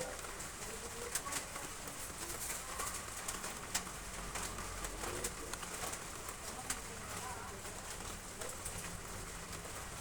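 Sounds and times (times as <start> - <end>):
heavy rain on roof tiles: 0.0 - 10.0.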